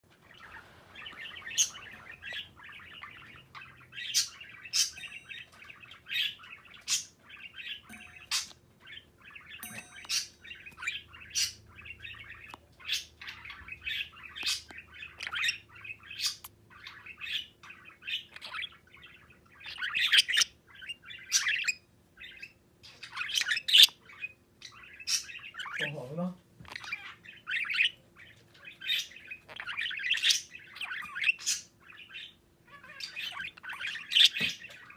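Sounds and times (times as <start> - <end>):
budgerigar chattering and warbling: 0.3 - 34.9.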